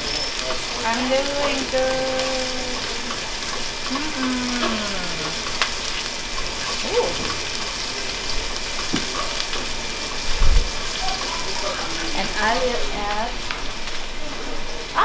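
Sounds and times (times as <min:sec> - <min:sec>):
shrimp sizzling in hot oil: 0:00.0 - 0:15.0.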